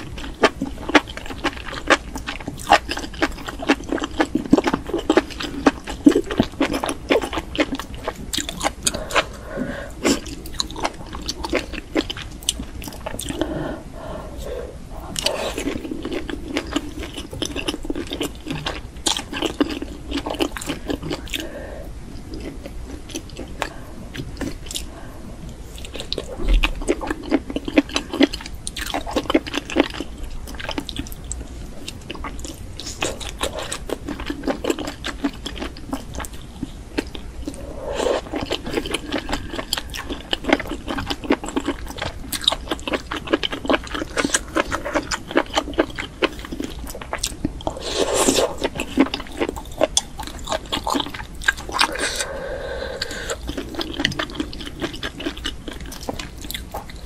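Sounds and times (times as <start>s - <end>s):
person chewing wetly: 0.0s - 13.6s, 14.3s - 57.0s.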